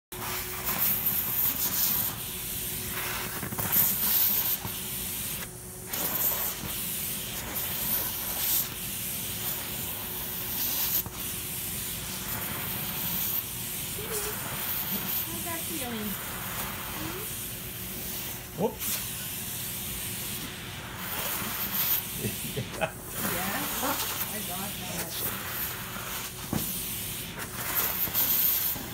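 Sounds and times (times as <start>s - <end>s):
vacuum cleaner suction: 0.2s - 28.9s.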